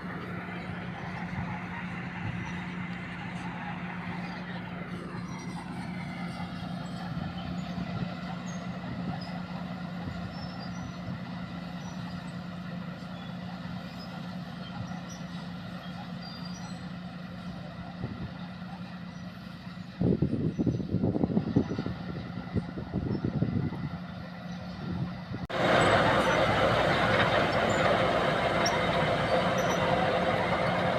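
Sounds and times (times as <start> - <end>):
bulldozer engine droning: 0.0 - 30.9.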